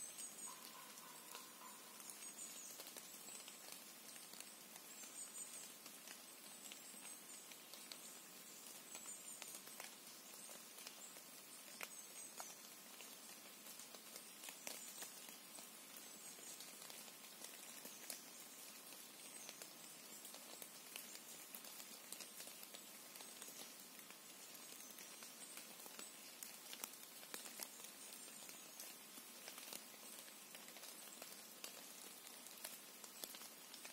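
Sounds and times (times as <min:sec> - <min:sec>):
faint even hiss: 0:00.0 - 0:33.9
faint high-pitched chirps: 0:00.0 - 0:33.9.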